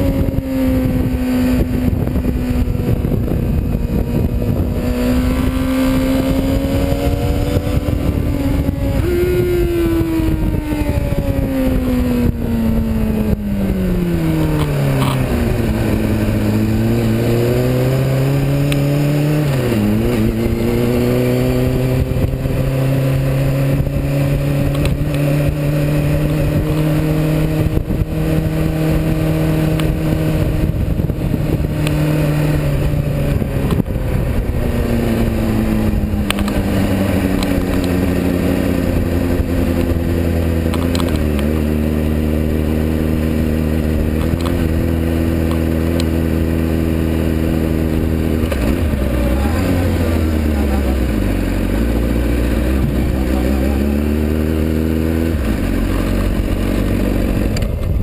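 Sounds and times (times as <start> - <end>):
motorcycle engine at low revs: 0.0 - 58.0.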